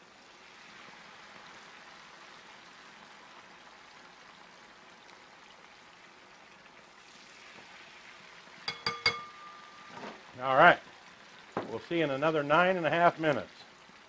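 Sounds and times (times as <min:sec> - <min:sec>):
oil bubbling and sizzling: 0:00.0 - 0:14.0.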